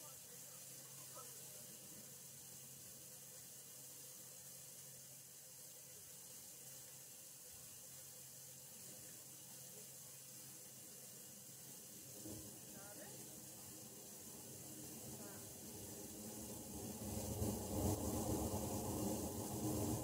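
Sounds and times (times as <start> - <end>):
low steady hum: 0.0 - 20.0
water hissing through pipes: 0.0 - 20.0.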